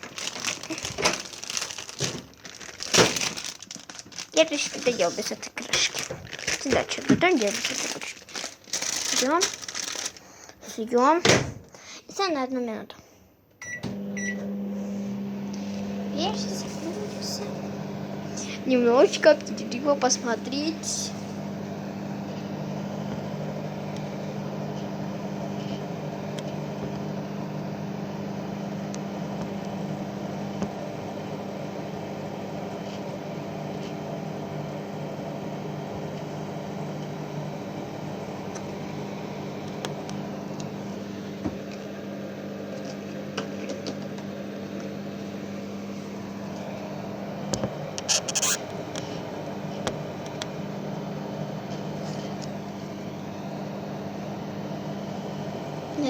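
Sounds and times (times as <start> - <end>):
microwave oven humming: 0.0 - 12.0, 13.5 - 56.0.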